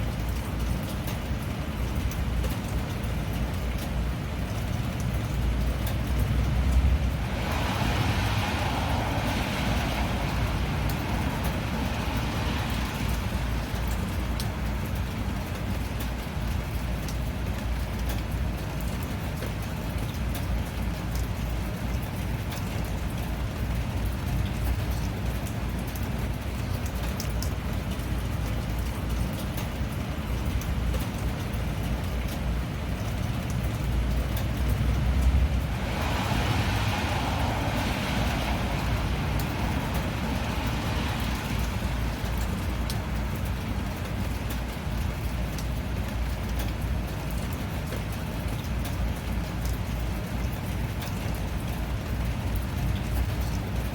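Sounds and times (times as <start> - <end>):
steady rainfall: 0.0 - 53.9.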